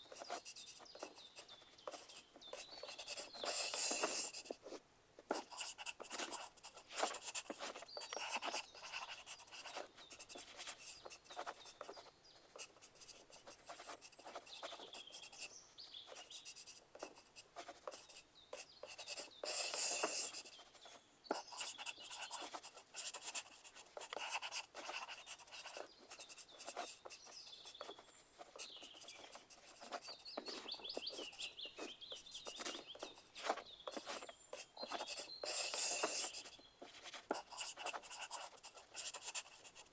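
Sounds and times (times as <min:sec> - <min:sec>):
pencil writing on paper: 0:00.0 - 0:39.9.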